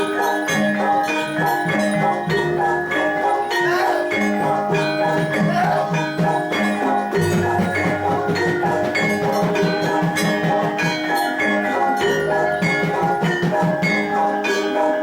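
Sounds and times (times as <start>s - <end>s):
steady drum pattern: 0.0s - 14.4s
metallophones and gongs ringing: 0.0s - 15.0s.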